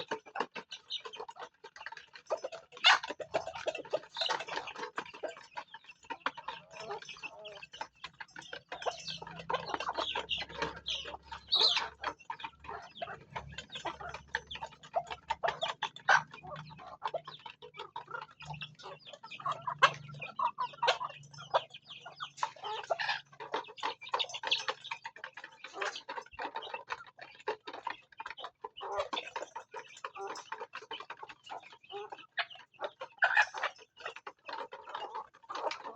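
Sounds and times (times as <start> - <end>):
beaks tapping on feed: 0.0 - 35.9
chickens clucking: 0.0 - 35.9.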